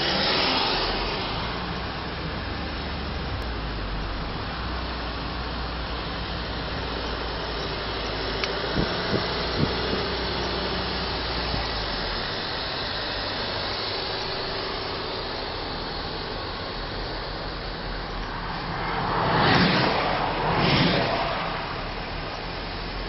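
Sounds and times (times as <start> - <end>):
road and wind noise in car: 0.0 - 23.0.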